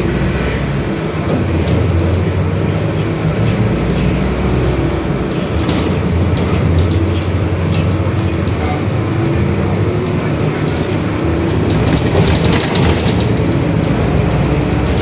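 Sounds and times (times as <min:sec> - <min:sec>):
bodywork rattles and clicks: 0:00.0 - 0:15.0
bus diesel engine drone: 0:00.0 - 0:15.0
differential droning: 0:00.0 - 0:15.0
road noise: 0:00.0 - 0:15.0.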